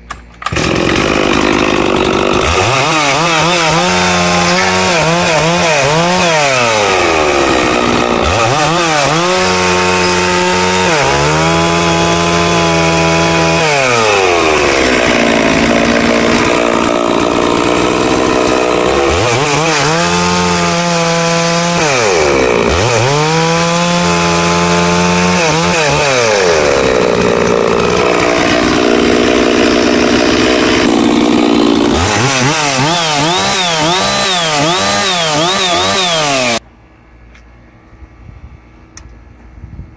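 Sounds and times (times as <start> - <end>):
chainsaw cutting wood: 0.0 - 36.6.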